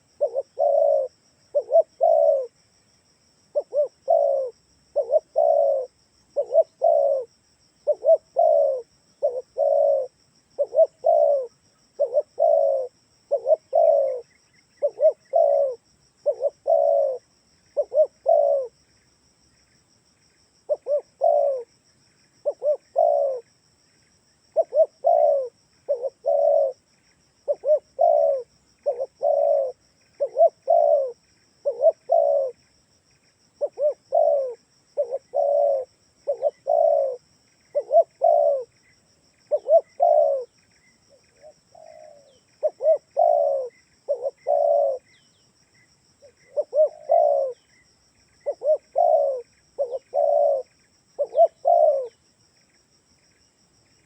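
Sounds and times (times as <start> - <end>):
dove cooing: 0.0 - 2.6, 3.5 - 18.9, 20.6 - 21.8, 22.4 - 23.5, 24.5 - 32.7, 33.6 - 45.3, 46.2 - 47.8, 48.4 - 52.2.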